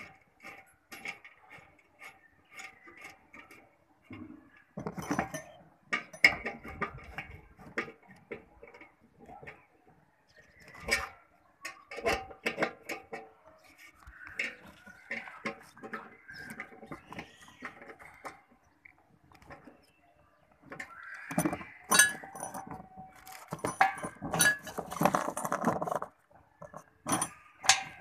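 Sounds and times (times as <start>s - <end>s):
metal clattering on metal: 0.0s - 20.0s, 20.6s - 28.0s.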